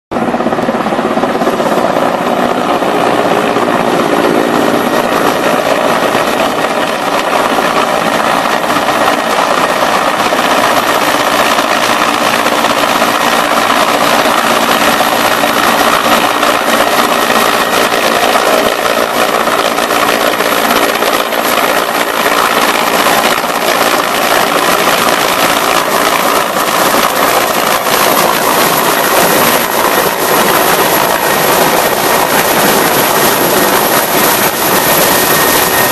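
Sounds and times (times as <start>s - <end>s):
helicopter rotor and engine: 0.1s - 35.9s.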